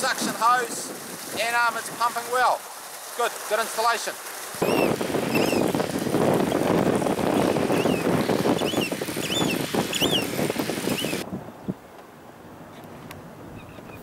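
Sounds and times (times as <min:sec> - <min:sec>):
water splashing into a tank: 0:00.0 - 0:11.3.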